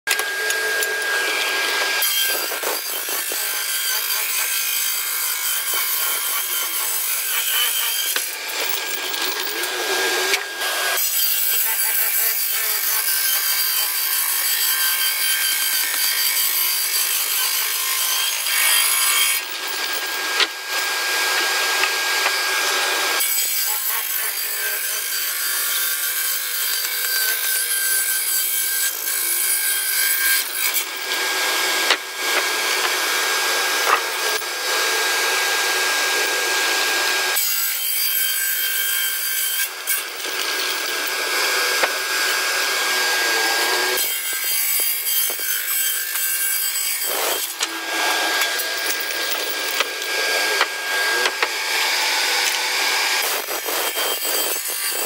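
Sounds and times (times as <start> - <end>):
circular saw cutting wood: 0.1 - 55.0.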